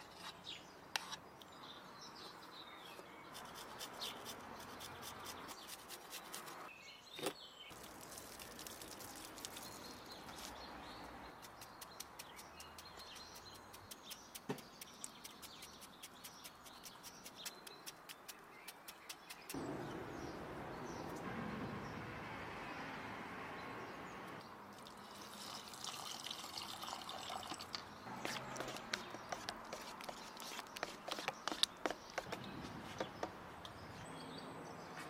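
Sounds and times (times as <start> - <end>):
birds chirping: 0.0 - 25.7, 26.6 - 35.0.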